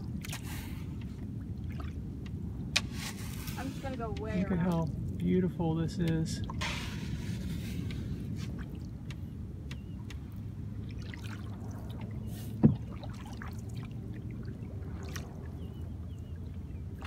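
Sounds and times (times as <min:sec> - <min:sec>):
paddle splashes and drips: 0:00.0 - 0:05.3, 0:06.0 - 0:17.0
low steady rumble: 0:00.0 - 0:17.0.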